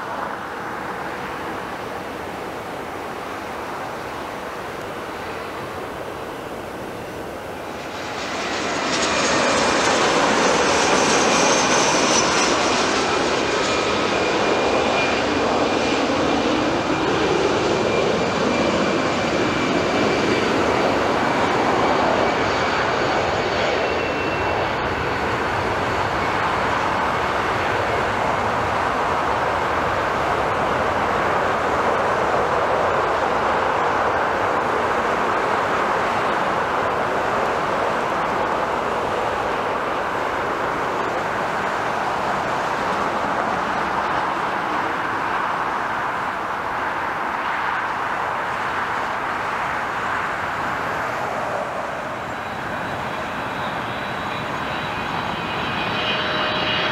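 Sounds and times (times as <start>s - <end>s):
jet engines roaring with whine: 0.0s - 56.9s.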